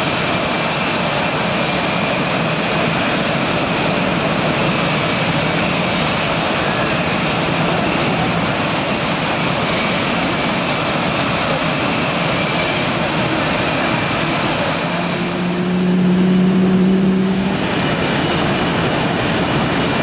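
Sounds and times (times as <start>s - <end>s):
high-pitched whine: 0.0s - 20.0s
jet engines running: 0.0s - 20.0s.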